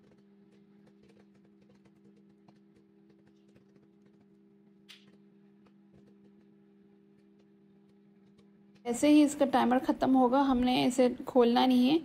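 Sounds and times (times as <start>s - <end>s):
popcorn popping: 0.0s - 11.9s
microwave oven hum: 0.0s - 12.0s.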